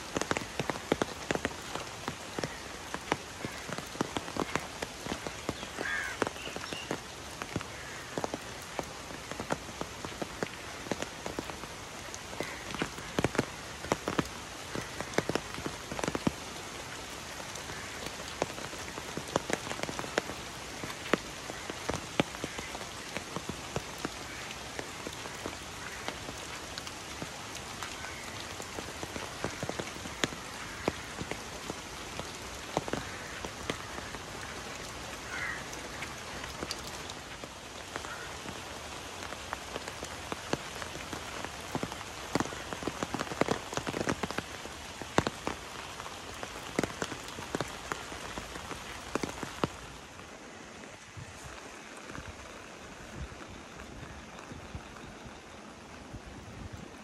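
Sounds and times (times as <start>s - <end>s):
raindrops tapping on umbrella: 0.0s - 57.0s
steady rain falling: 0.0s - 57.0s.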